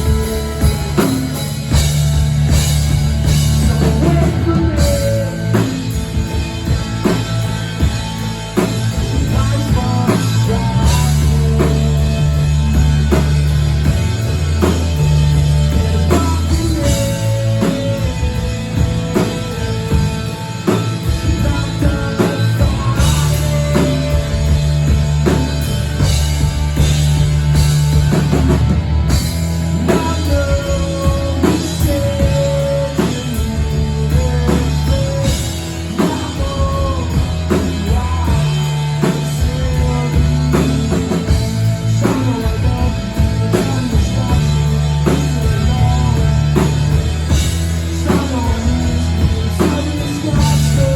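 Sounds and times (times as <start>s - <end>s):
drum kit beat: 0.0s - 50.9s
live rock band playing: 0.0s - 50.9s.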